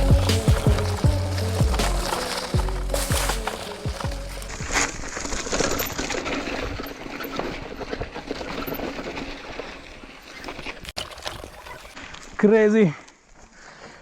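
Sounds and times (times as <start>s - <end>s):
bike clicks and rattles: 0.0s - 12.4s
tyres crunching on loose stones: 0.0s - 12.5s.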